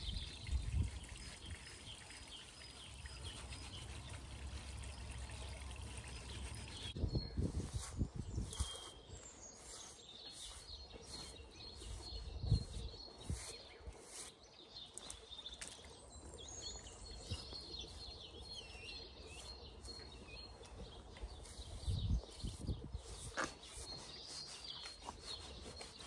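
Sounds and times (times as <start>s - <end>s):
small birds chirping: 0.0s - 26.0s
hand brush strokes: 2.6s - 15.9s, 16.8s - 26.0s.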